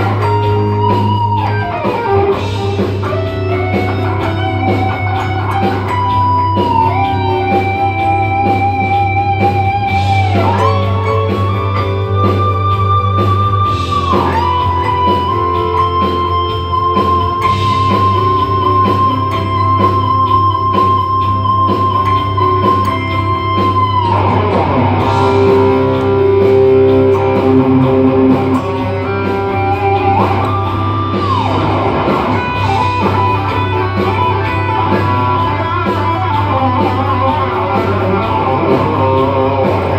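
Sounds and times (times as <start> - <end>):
guitar lead with vibrato: 0.0 - 39.9.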